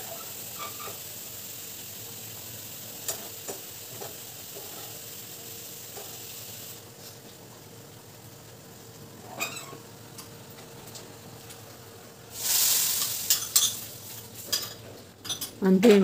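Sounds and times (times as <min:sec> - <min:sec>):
spices sizzling in hot oil: 0:00.0 - 0:15.5.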